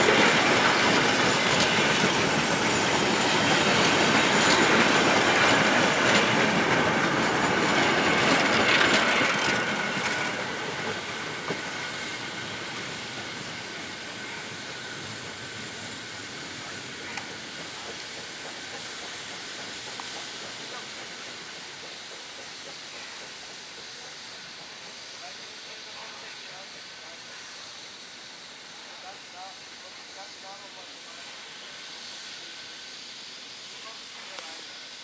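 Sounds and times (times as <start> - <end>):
train coaches rolling on rails: 0.0 - 35.0.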